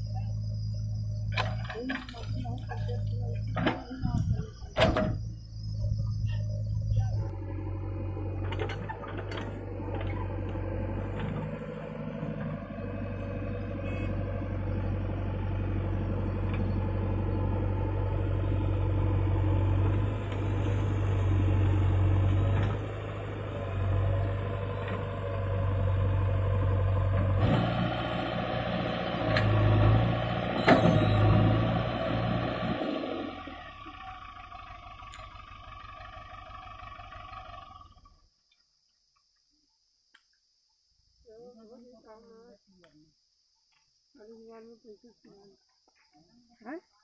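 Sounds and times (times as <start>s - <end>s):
diesel engine under load: 0.0s - 38.3s.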